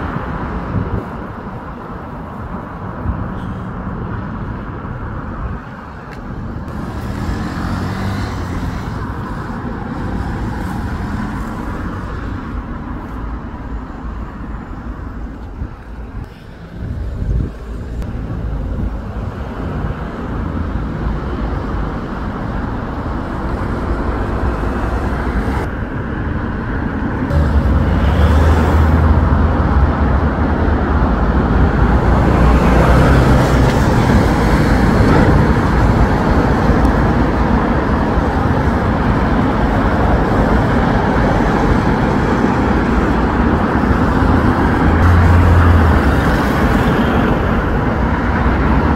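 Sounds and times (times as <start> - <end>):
traffic driving past: 0.0 - 48.9.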